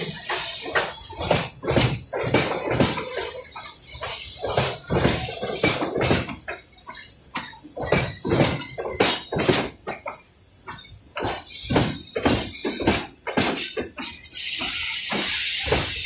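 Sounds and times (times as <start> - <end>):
train wheels clattering on track: 0.0 - 16.0.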